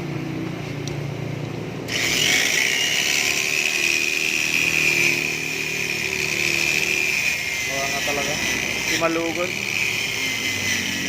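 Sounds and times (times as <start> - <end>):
power tool whining: 1.9 - 11.0.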